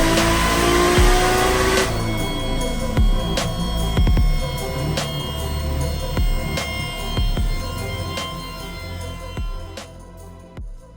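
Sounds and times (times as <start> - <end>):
car engine revving: 0.0 - 9.8
electronic music with deep bass: 0.0 - 10.9.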